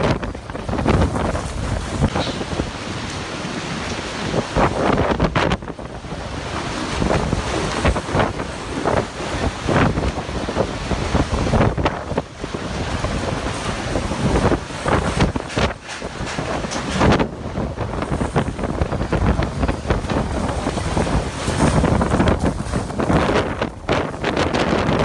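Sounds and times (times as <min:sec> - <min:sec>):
choppy water: 0:00.0 - 0:25.0
wind buffeting the microphone: 0:00.0 - 0:25.0
wind-driven spray rushing: 0:00.0 - 0:25.0.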